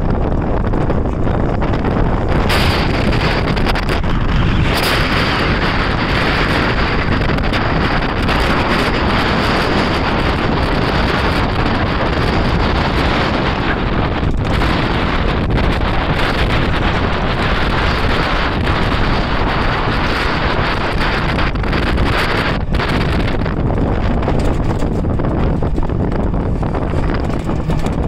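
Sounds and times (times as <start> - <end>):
vehicle running noise: 0.0 - 28.0
wind rushing on microphone: 0.0 - 28.0.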